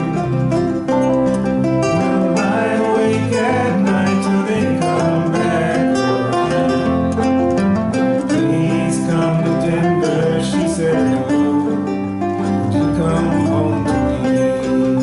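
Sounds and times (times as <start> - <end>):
ukuleles strummed and picked: 0.0 - 15.0.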